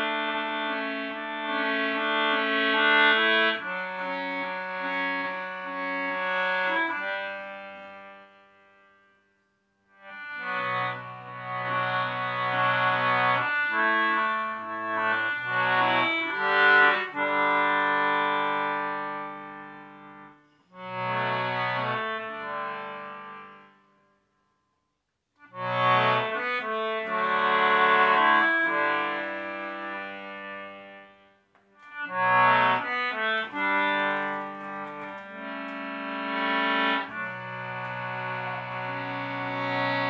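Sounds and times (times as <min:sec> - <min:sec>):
concertina playing chords: 0:00.0 - 0:24.4, 0:25.4 - 0:40.0.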